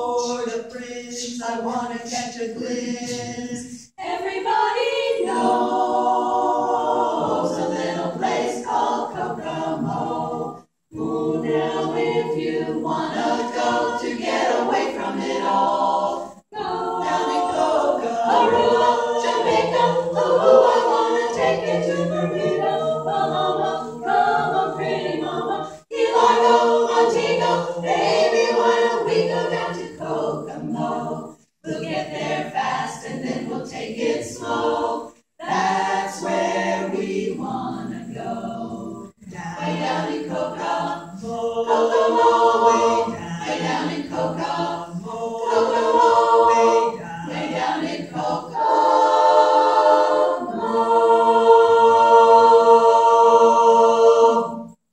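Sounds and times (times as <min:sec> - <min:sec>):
women's chorus singing a cappella: 0:00.0 - 0:54.9.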